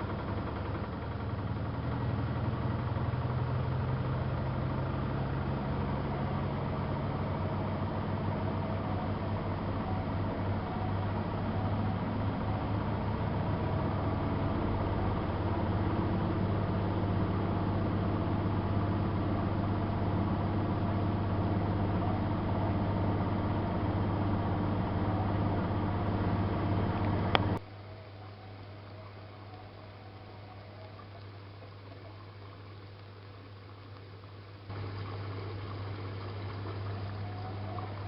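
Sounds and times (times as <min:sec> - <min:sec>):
washing machine humming: 0:00.0 - 0:38.0.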